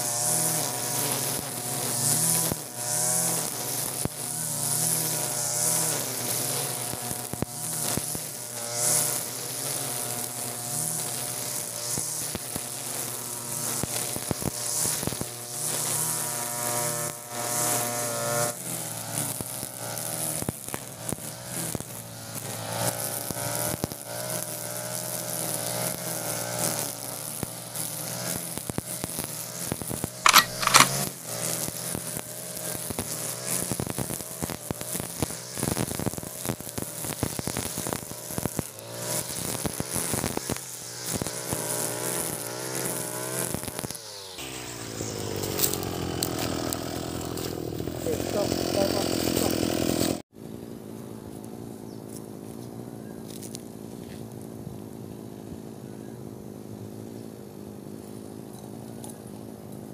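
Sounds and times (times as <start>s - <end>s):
brush cutter engine running: 0.0s - 29.6s, 30.2s - 31.6s, 32.5s - 50.2s
trimmer line whirring through grass: 0.0s - 55.5s.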